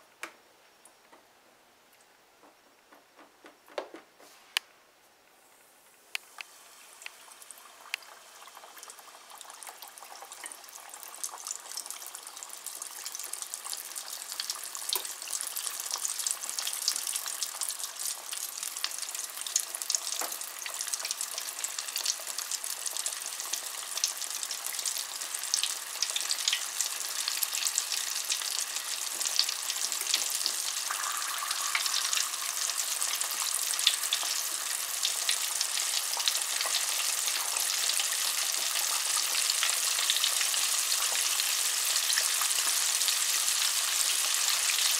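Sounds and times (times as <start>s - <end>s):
chicken deep-frying in oil: 6.4s - 44.9s.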